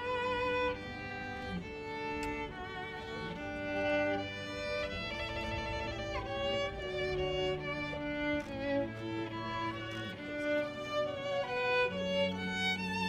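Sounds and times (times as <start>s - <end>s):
lower strings: 0.0s - 13.0s
violin with vibrato: 0.0s - 13.0s.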